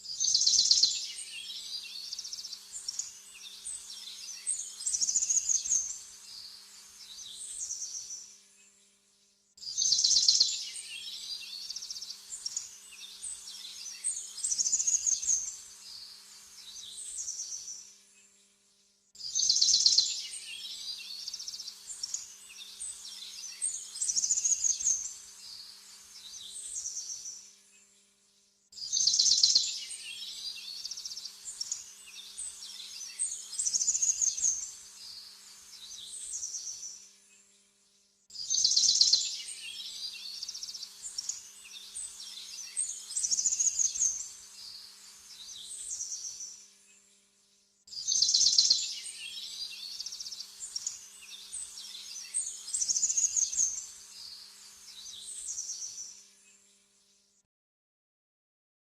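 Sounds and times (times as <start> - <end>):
songbirds chirping: 0.0 - 57.4.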